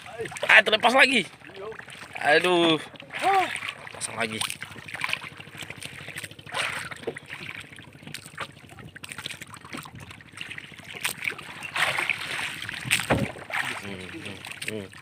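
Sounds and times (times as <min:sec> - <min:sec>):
water lapping against canoe hull: 0:00.0 - 0:15.0
water splashes: 0:00.0 - 0:15.0.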